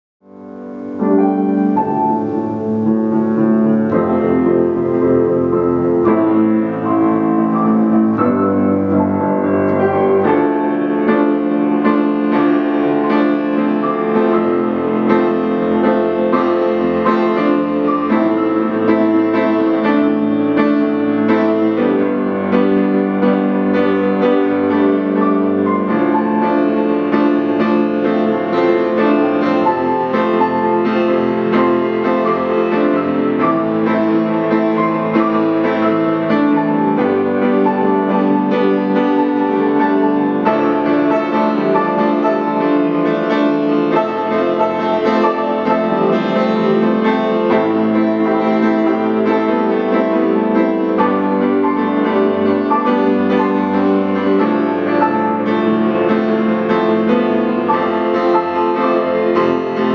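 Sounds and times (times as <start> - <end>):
piano chords: 0.2 - 59.9.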